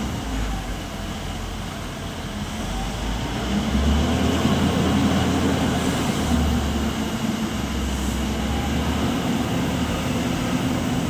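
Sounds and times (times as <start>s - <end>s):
diesel loader engine rumbling: 0.0s - 11.0s.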